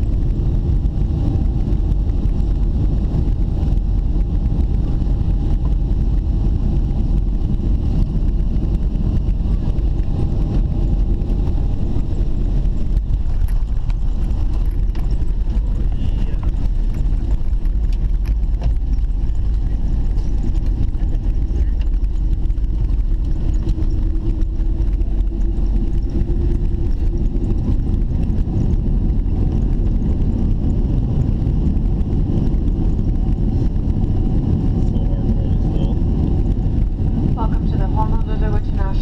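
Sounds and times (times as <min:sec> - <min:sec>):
airliner engines and wheels rumbling: 0:00.0 - 0:39.0
faint hum: 0:00.0 - 0:39.0.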